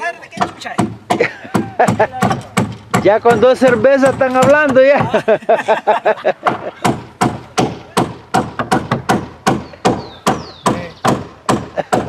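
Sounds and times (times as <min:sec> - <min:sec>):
hammering on wooden planking: 0:00.0 - 0:05.5, 0:06.2 - 0:12.0.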